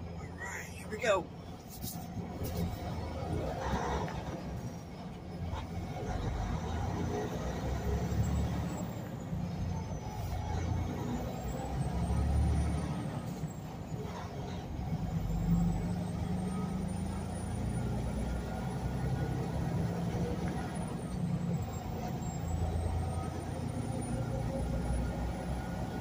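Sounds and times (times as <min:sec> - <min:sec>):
truck engine drone: 0:00.0 - 0:26.0
tyre and road noise: 0:00.0 - 0:26.0.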